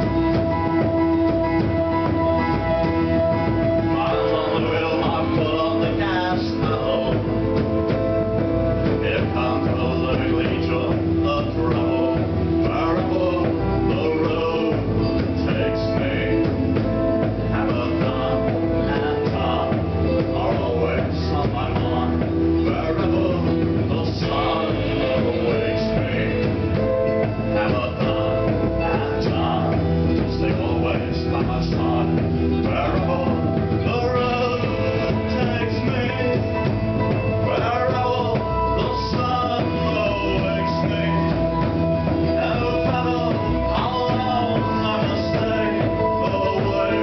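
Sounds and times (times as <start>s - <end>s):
bass guitar: 0.0s - 47.0s
electric guitar: 0.0s - 47.0s
keyboard: 0.0s - 47.0s
person singing into microphone: 3.8s - 8.0s, 8.9s - 47.0s.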